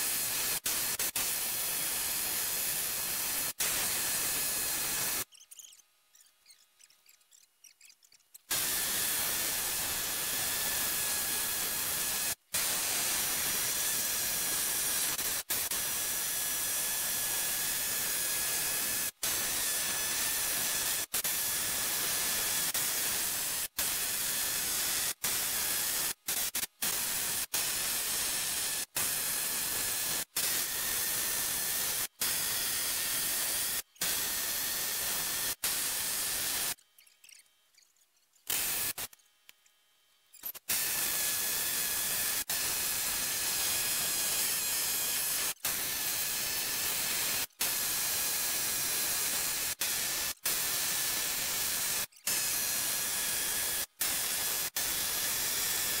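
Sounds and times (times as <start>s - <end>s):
pneumatic air hammer chattering on metal: 0.0s - 39.2s, 40.3s - 56.0s.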